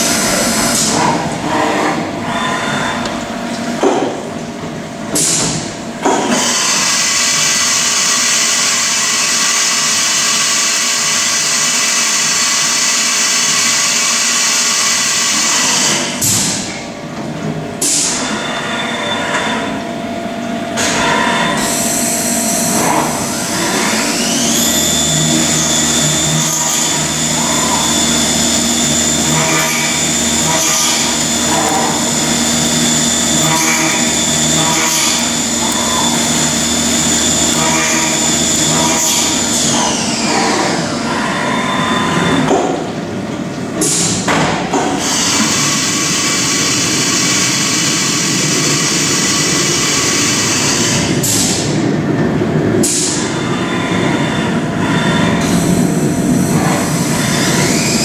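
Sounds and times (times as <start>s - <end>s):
milling machine spindle whine: 0.0s - 5.1s, 6.2s - 16.3s, 17.2s - 44.0s, 45.0s - 58.0s.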